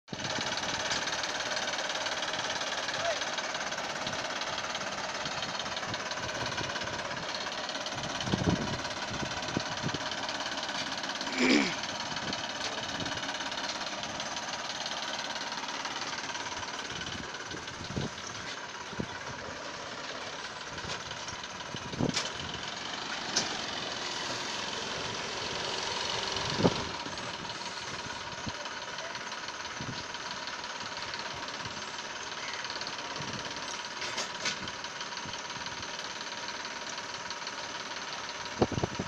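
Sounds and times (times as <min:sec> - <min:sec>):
tractor diesel engine under load: 0:00.0 - 0:39.0.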